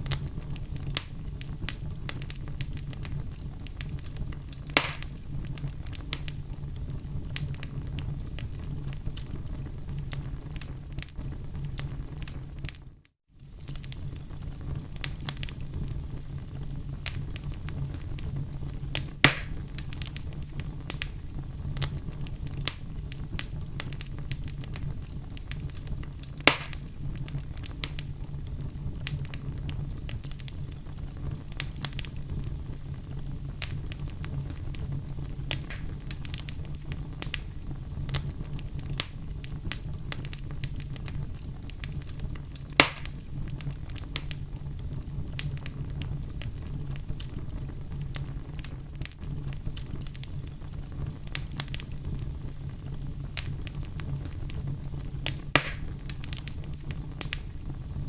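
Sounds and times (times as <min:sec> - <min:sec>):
loud fire pops: 0:00.0 - 0:58.0
wood fire crackling: 0:00.0 - 0:58.0.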